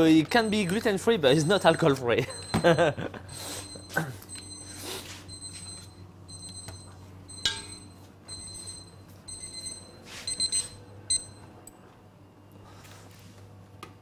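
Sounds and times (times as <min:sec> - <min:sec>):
electronic timer beeping: 0:00.0 - 0:11.5.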